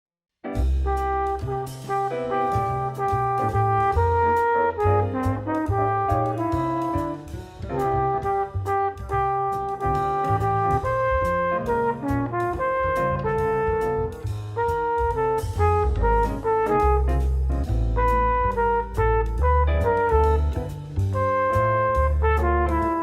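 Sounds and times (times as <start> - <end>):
drum kit hits: 0.5 - 23.0
jazz brass horns: 0.5 - 23.0.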